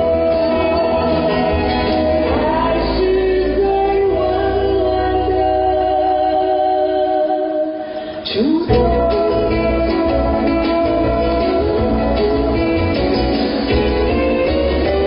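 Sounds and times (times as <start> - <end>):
live pop ballad with band: 0.0 - 15.0
man singing: 0.0 - 15.0
woman singing: 0.0 - 15.0.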